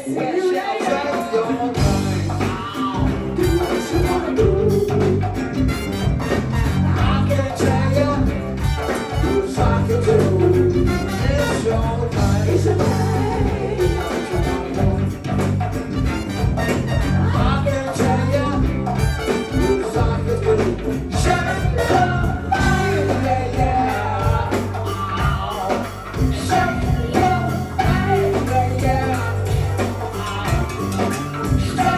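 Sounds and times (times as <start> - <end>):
person singing: 0.0 - 16.2, 16.9 - 31.9
live band music: 0.0 - 31.9.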